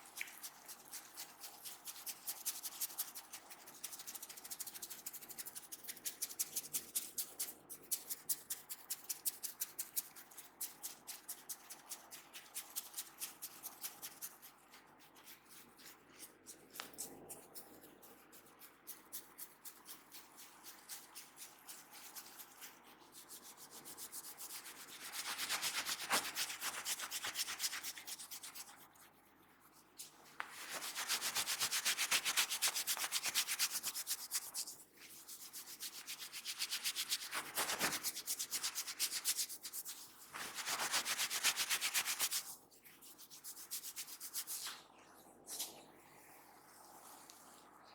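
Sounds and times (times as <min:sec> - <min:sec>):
hands rubbing over hair and skin: 0:00.0 - 0:44.9, 0:46.8 - 0:47.7.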